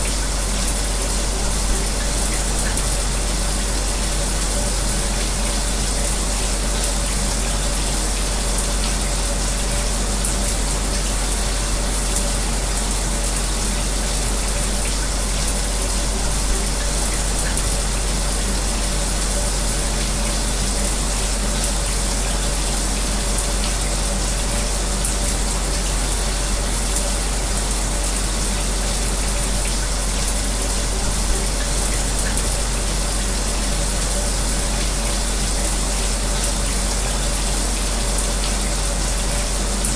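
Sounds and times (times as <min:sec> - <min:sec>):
shower spray running: 0:00.0 - 0:39.9.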